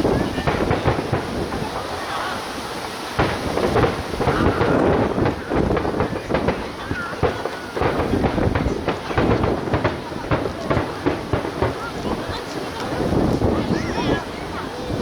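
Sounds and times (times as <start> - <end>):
distant fireworks booming: 0.0 - 15.0
spectators' voices: 0.0 - 15.0.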